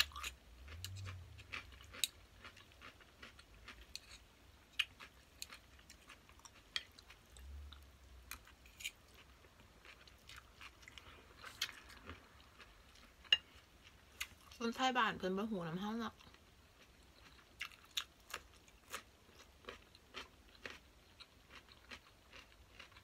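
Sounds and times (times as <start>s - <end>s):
person chewing: 0.0s - 14.6s, 16.2s - 23.0s.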